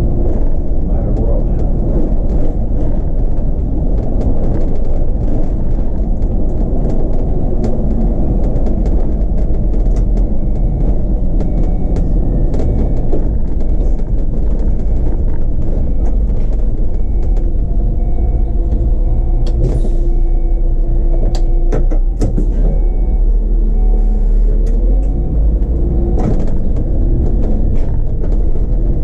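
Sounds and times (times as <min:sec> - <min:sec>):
rattles and knocks: 0:00.0 - 0:20.4, 0:24.8 - 0:29.0
bus engine and road rumble: 0:00.0 - 0:29.0.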